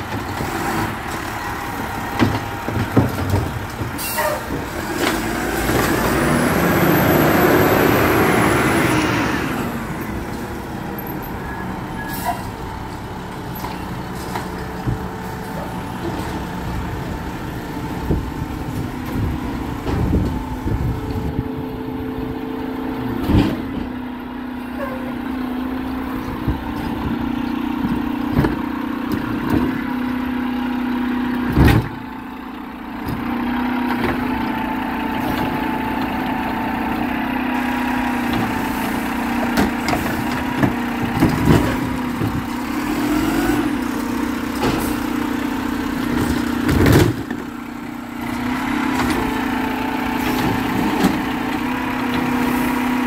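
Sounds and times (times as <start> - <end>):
garbage truck engine running: 0.0 - 53.0.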